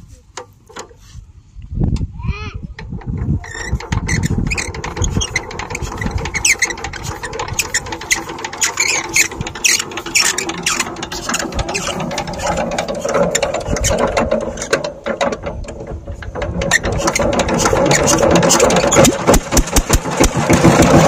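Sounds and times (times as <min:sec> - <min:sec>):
diesel engine being hand-cranked: 0:02.7 - 0:21.0.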